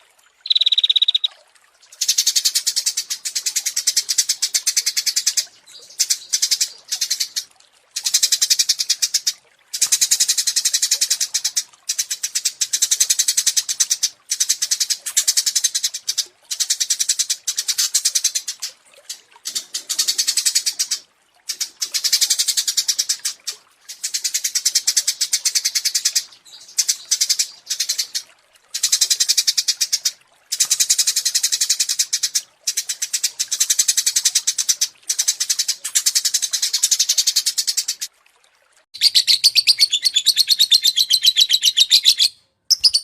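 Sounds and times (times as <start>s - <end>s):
songbird rapid trills: 0.4s - 38.1s, 39.0s - 43.0s.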